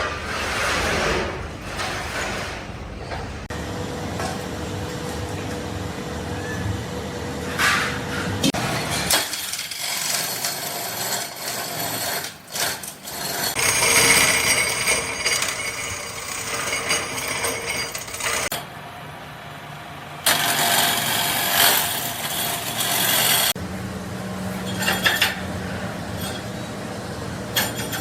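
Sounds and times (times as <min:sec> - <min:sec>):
clattering machine noise: 0:00.0 - 0:19.2, 0:19.8 - 0:28.0
machinery humming: 0:01.4 - 0:09.2, 0:12.0 - 0:28.0.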